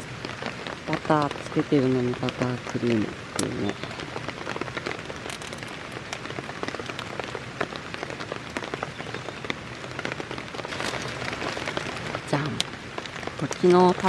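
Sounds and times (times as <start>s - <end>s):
rain falling on a surface: 0.0s - 14.0s.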